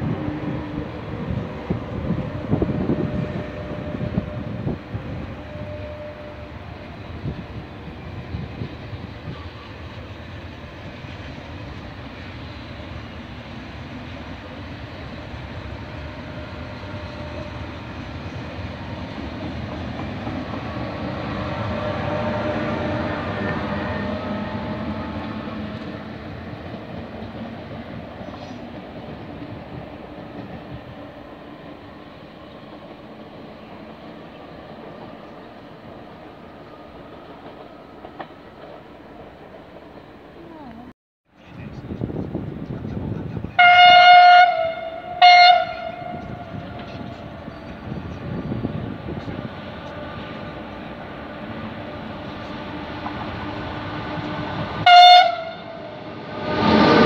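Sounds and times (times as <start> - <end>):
wind buffeting microphone: 0.0 - 31.9, 41.4 - 43.8, 44.4 - 57.0
train wheels rumbling on rail: 0.0 - 57.0.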